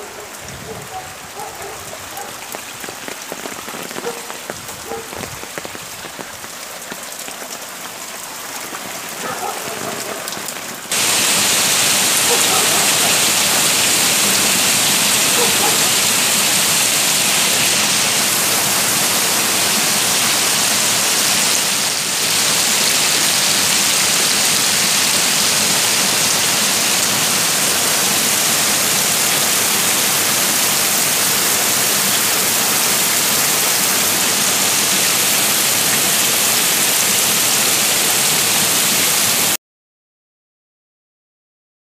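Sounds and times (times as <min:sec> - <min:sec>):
heavy rain: 0:00.0 - 0:39.6
runoff water rushing down channel: 0:00.0 - 0:39.6.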